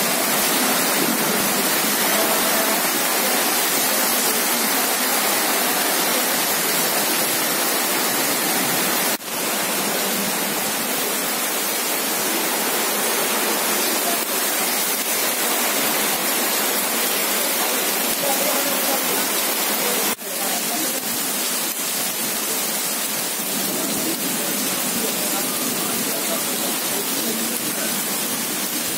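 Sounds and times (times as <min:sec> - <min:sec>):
heavy rain on wet street: 0:00.0 - 0:28.9.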